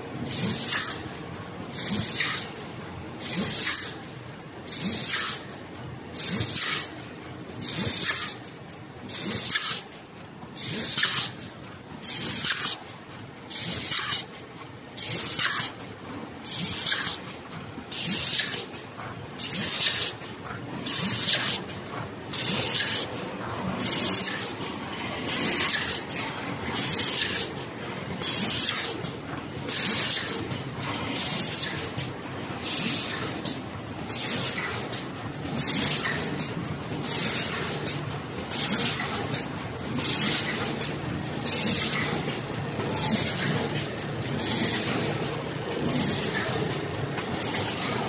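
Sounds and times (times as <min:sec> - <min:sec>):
machine running noise: 0:00.0 - 0:48.0.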